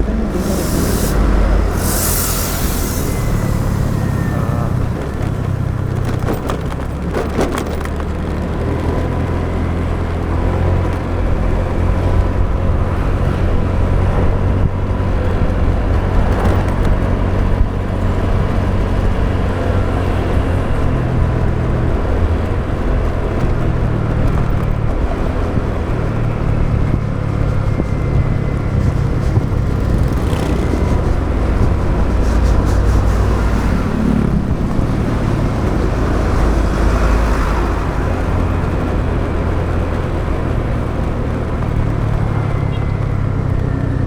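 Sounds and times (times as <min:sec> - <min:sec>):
motorbike engine running: 0:00.0 - 0:44.0
road and traffic noise: 0:00.0 - 0:44.0.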